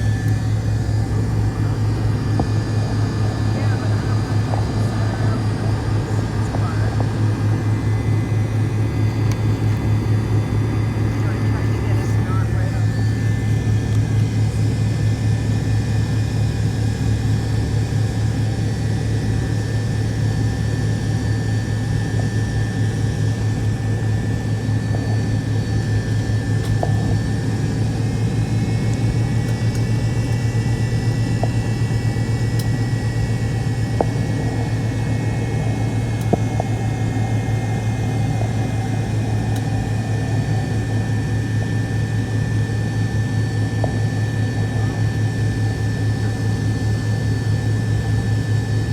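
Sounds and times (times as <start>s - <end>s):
jet engine cabin drone: 0.0s - 48.9s.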